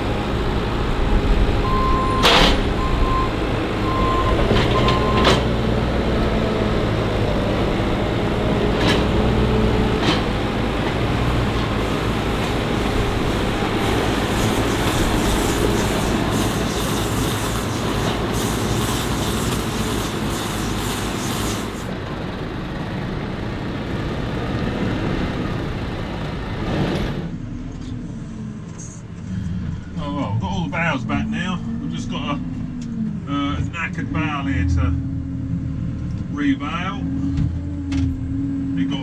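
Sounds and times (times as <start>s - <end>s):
tractor and machinery running: 0.0s - 39.0s.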